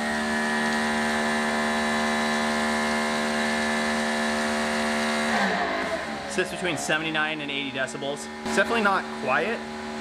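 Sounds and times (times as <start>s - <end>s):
pressure washer motor hum: 0.0s - 10.0s.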